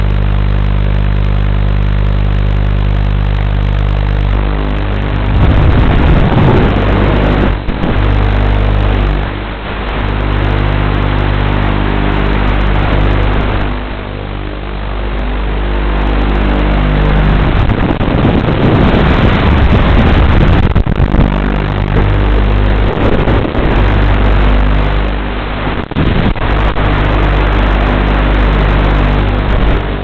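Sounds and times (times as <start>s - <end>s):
drone motors and propellers: 0.0s - 30.0s.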